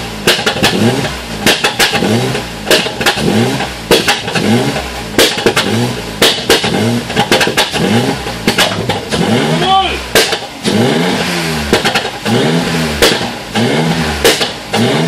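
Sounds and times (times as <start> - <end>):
car engine revving: 0.0 - 15.0
exhaust pops and crackles: 0.0 - 15.0.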